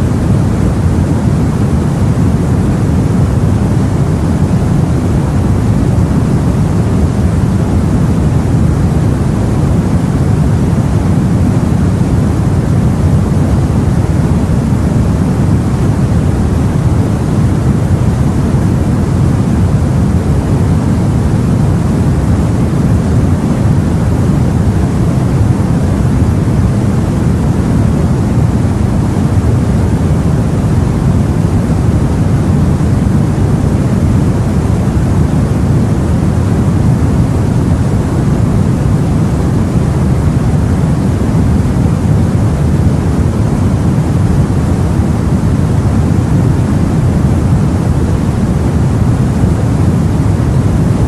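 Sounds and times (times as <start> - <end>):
sea and wind rushing: 0.0 - 51.0.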